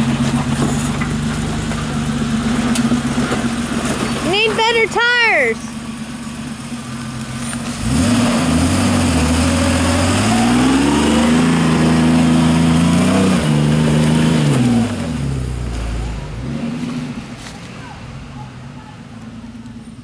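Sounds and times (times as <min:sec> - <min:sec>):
truck engine pulling uphill: 0:00.0 - 0:20.0.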